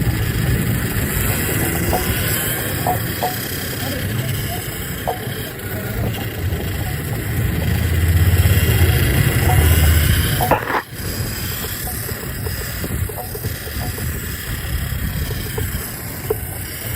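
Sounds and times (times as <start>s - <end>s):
low engine rumble: 0.0s - 16.9s
street traffic noise: 0.0s - 16.9s.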